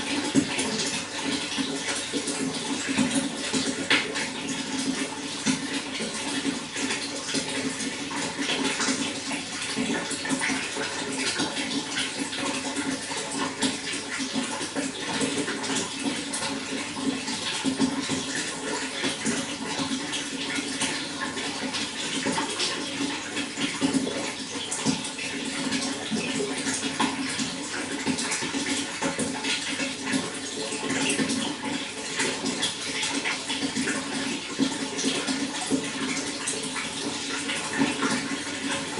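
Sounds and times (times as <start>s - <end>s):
running water splashing: 0.0s - 38.9s.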